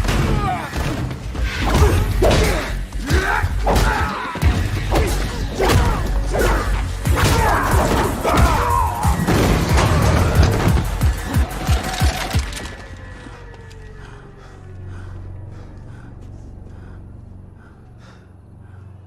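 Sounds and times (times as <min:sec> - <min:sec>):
loud action film music: 0:00.0 - 0:19.0.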